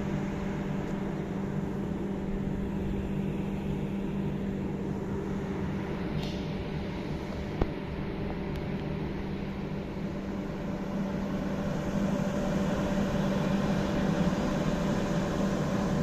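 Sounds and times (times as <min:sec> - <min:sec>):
electric locomotive hum: 0:00.0 - 0:16.0.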